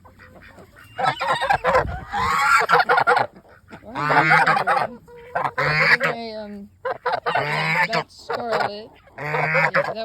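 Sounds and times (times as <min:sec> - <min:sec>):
waterfowl calling: 0:00.0 - 0:10.0.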